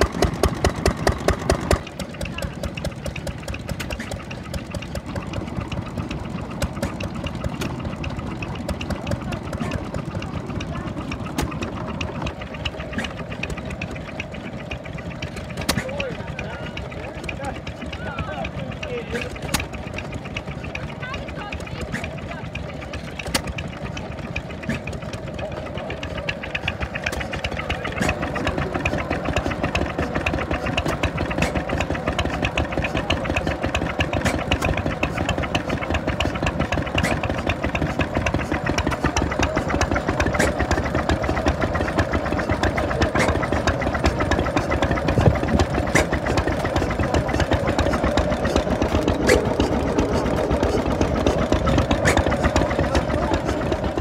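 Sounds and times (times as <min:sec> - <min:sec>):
stationary engine running: 0:00.0 - 0:54.0.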